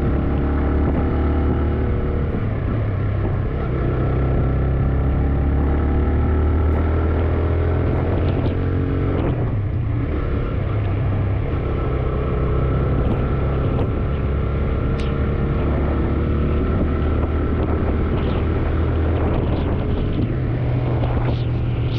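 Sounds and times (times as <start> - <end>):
motorcycle engine riding: 0.0 - 21.9.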